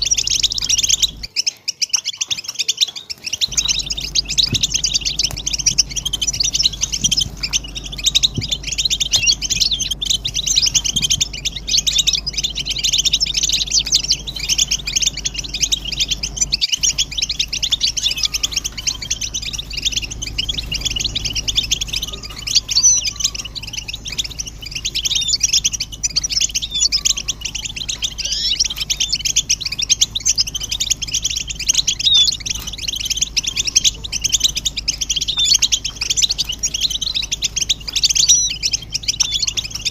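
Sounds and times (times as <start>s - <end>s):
finches twittering and singing: 0.0s - 39.9s.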